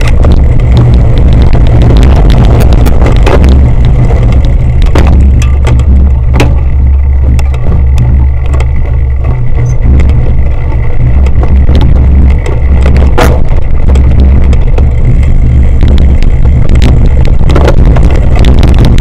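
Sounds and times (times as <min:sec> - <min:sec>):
bike rattles and knocks: 0:00.0 - 0:19.0
wind and ride rumble: 0:00.0 - 0:19.0.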